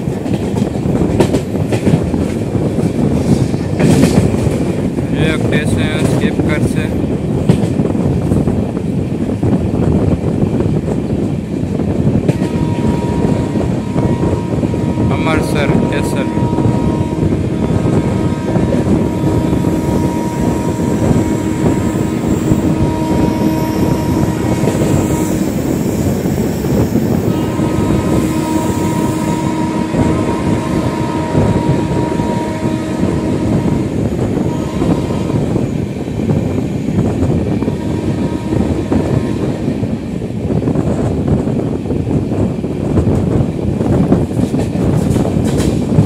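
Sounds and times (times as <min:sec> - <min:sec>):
train wheels rumbling on track: 0:00.0 - 0:46.0.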